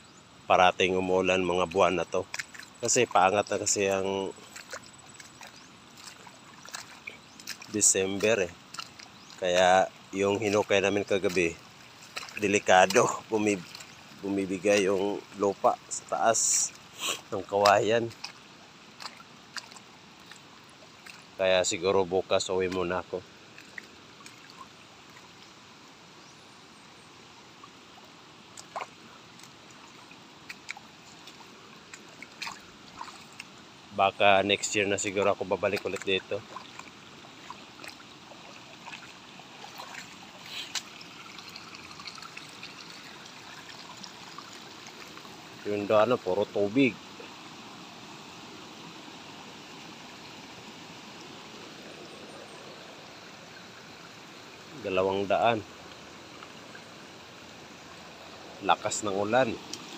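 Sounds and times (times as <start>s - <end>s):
shallow water rushing over stones: 0.5s - 26.3s, 27.1s - 59.9s.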